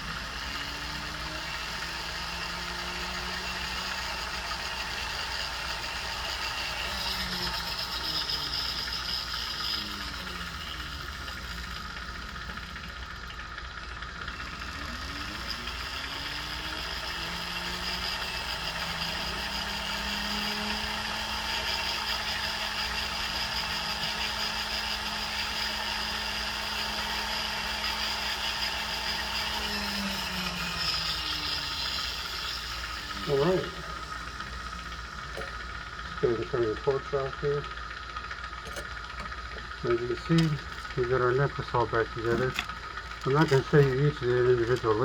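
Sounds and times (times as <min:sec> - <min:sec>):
small motor whirring: 0:00.0 - 0:45.0.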